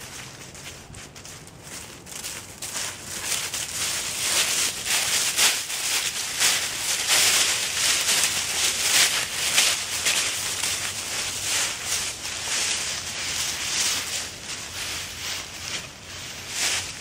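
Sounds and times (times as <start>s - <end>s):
footsteps in dry leaves: 0.0s - 17.0s
hooves crunching through dry leaves: 0.0s - 17.0s.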